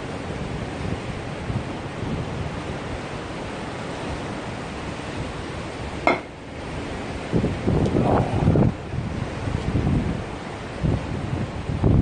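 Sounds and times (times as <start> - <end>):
sea surf: 0.0 - 12.0
wind buffeting microphone: 0.0 - 12.0.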